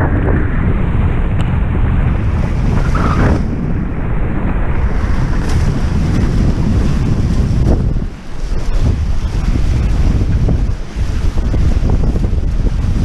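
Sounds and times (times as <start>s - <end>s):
water splashing off hulls: 0.0s - 13.0s
wind buffeting microphone: 0.0s - 13.0s.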